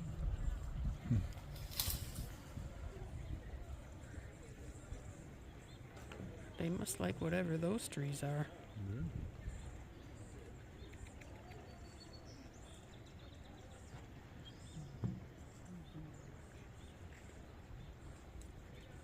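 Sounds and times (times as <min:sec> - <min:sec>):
distant voices: 0:00.0 - 0:19.0.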